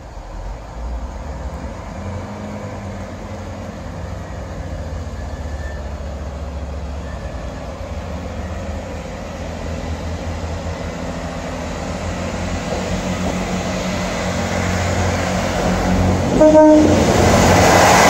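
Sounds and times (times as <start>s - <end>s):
diesel train engine rumble: 0.0s - 18.0s.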